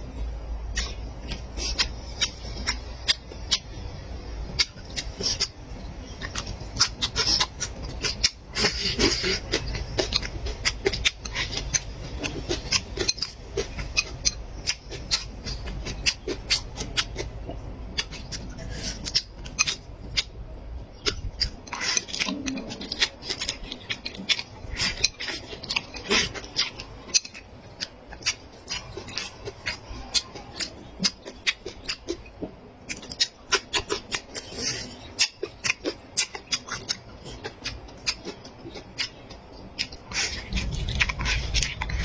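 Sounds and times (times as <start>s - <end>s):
chewing and crunching: 0.6s - 42.0s.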